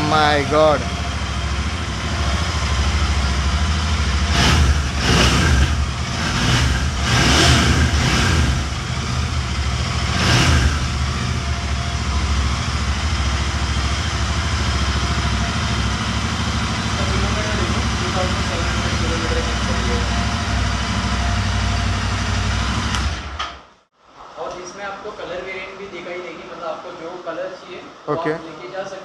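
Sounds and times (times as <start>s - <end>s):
motorcycle engine idling and revving: 0.0s - 23.7s.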